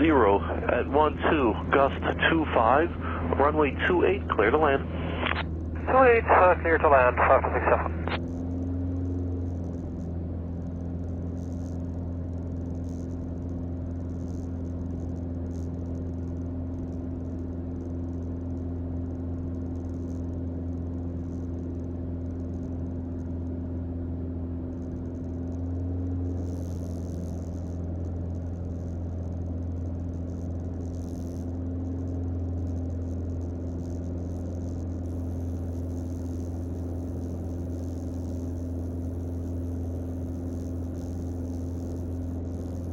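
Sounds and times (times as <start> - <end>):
airplane engine and propeller drone: 0.0 - 42.9.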